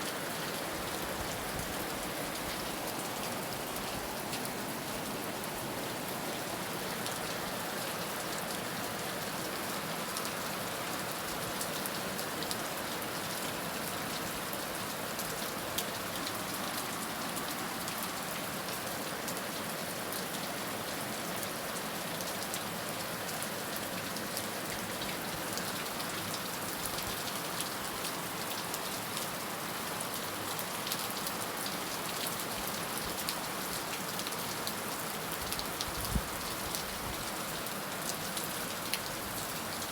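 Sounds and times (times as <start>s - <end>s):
heavy rain on a surface: 0.0s - 39.9s.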